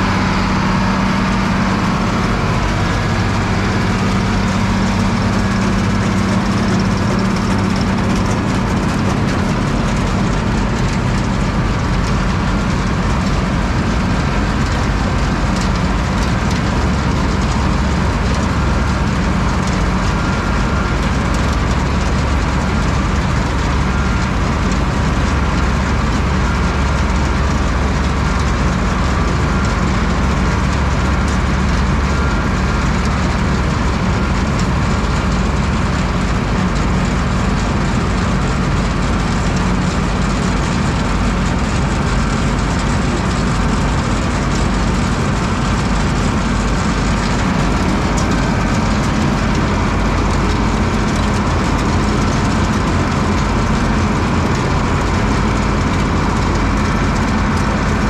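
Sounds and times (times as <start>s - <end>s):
forage wagon beaters and conveyor: 0.0s - 58.0s
tractor engine running: 0.0s - 58.0s.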